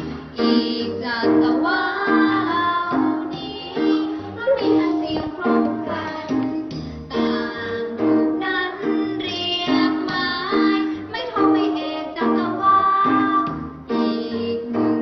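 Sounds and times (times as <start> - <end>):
children's song singing: 0.0 - 15.0
instrumental accompaniment: 0.0 - 15.0.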